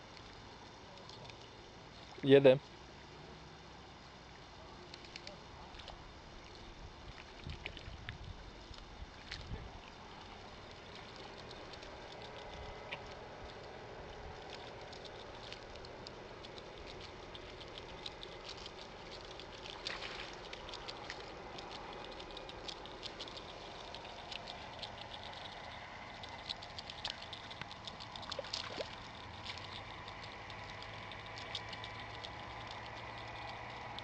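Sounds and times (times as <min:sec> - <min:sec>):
geese bills pecking and clicking: 0:00.0 - 0:03.0, 0:03.7 - 0:34.0.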